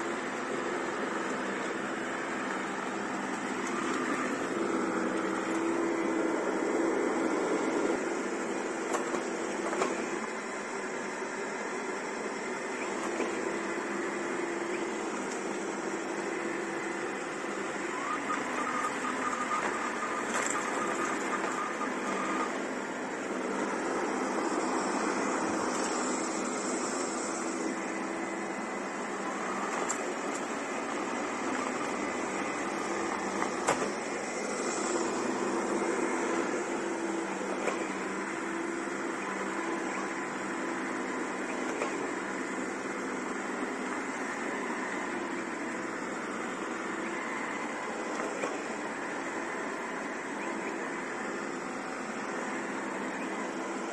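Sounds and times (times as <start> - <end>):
brushes sweeping tiled floor: 0.0 - 53.9
robot vacuum whirring: 0.0 - 53.9.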